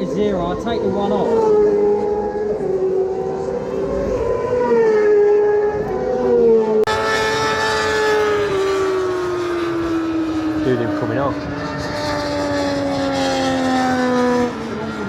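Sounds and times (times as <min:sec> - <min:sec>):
brighter motorcycle engine: 0:00.0 - 0:15.0
racing motorcycles passing: 0:00.0 - 0:15.0.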